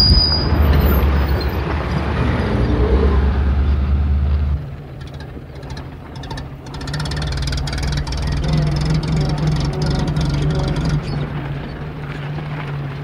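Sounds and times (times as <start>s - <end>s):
car engine and road rumble: 0.0s - 13.0s
engine idling with mechanical ticking: 0.0s - 13.0s.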